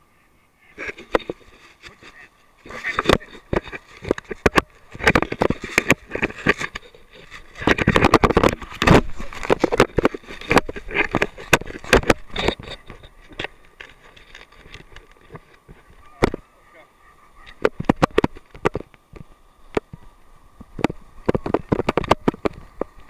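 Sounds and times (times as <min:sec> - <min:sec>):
camera housing knocking and scraping: 0:00.9 - 0:01.6, 0:02.8 - 0:16.4, 0:17.5 - 0:19.9, 0:20.7 - 0:22.9.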